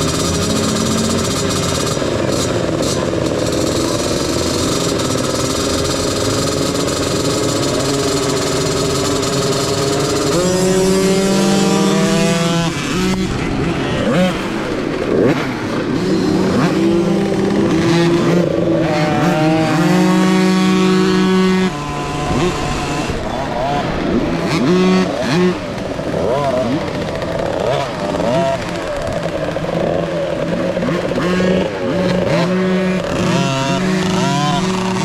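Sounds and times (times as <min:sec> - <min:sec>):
motocross bikes racing: 0:00.0 - 0:35.0
steady rushing noise: 0:00.0 - 0:35.0.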